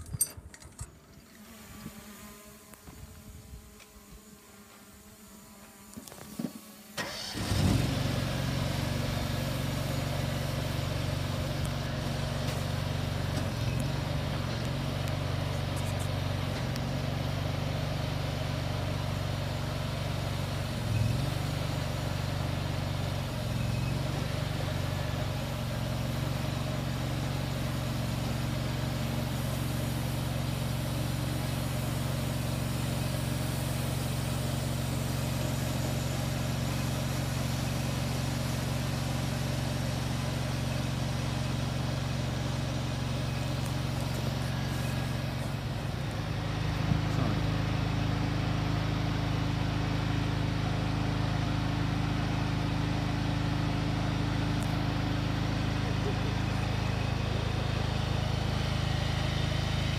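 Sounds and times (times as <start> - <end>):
pump engine running: 5.9 - 59.9.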